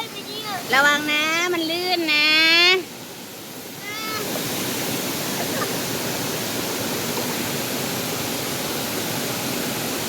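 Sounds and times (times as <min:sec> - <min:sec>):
water rushing down waterfall: 0:00.0 - 0:10.0.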